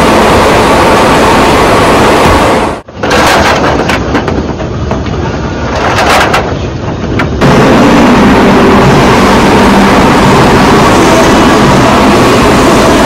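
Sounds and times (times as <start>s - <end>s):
conveyors and motors humming: 0.0s - 13.0s
loud machinery noise: 0.0s - 13.0s.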